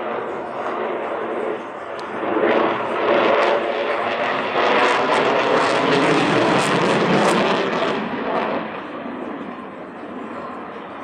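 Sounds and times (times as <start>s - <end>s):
loud jet engine roar: 0.0s - 11.0s.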